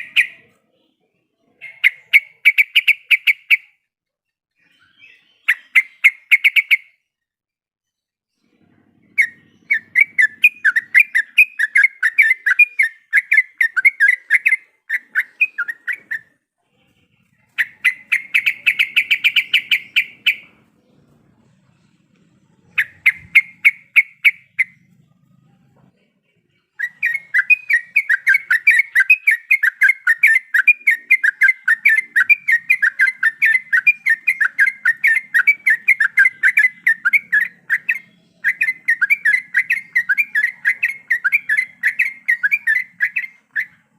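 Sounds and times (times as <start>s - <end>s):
bulbul chattering song: 0.0s - 3.9s, 4.6s - 7.2s, 8.6s - 43.9s.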